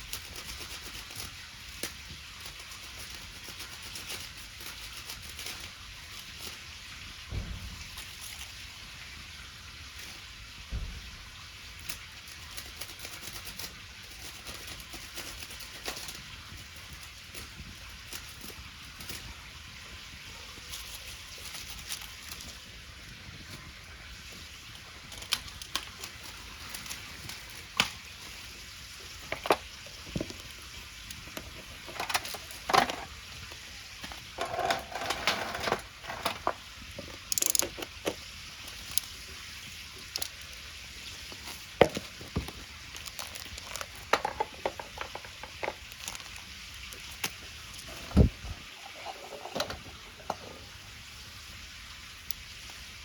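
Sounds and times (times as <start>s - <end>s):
sizzling hiss of fire: 0.0s - 53.0s
bonfire crackling and popping: 4.4s - 48.8s.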